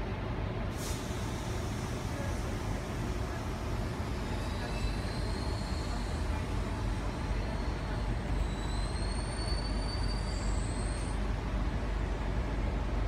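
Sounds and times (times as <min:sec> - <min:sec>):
train carriage rumble and hum: 0:00.0 - 0:13.0.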